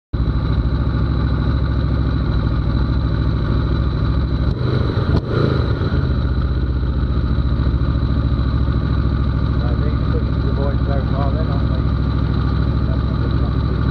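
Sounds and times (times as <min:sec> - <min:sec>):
motorcycle engine idling: 0:00.2 - 0:13.9.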